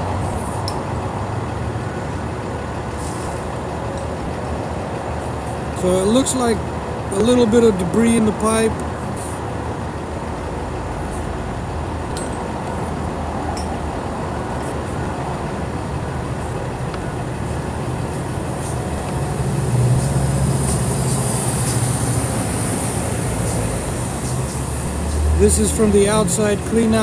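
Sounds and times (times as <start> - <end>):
heavy low engine hum: 0.0 - 27.0
traffic and engine rumble: 0.0 - 27.0.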